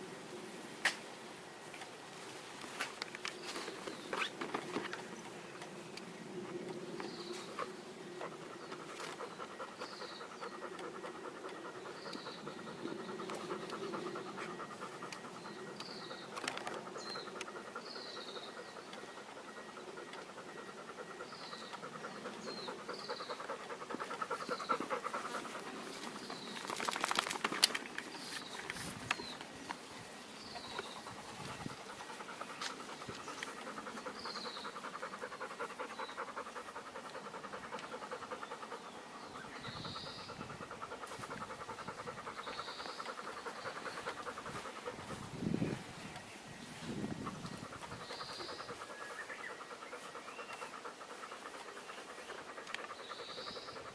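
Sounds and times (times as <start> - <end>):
dog panting: 2.7 - 53.9.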